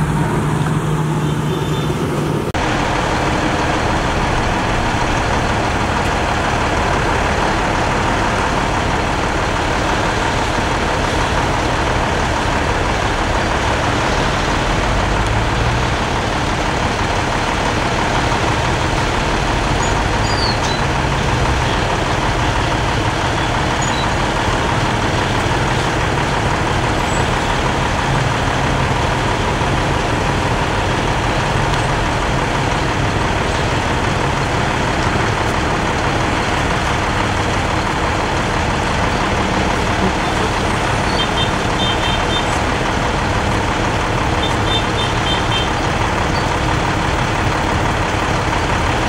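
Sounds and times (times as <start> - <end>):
truck engine rumbling: 0.0 - 49.0.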